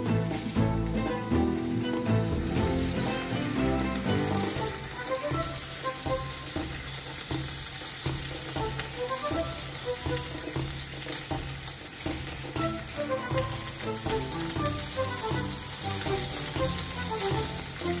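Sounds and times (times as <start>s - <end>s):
background music: 0.0s - 18.0s
bacon sizzling in a pan: 0.0s - 18.0s.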